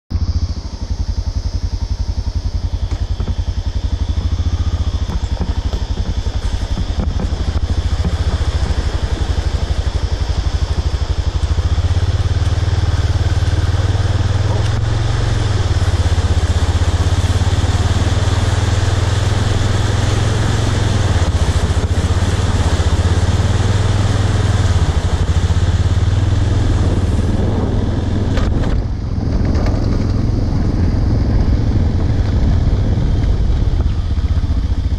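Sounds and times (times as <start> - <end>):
motorcycle engine riding: 0.1 - 34.9.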